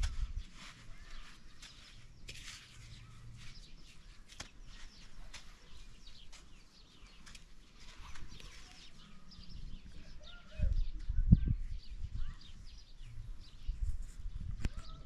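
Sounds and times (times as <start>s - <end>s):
small birds chirping faintly: 0.0s - 15.0s.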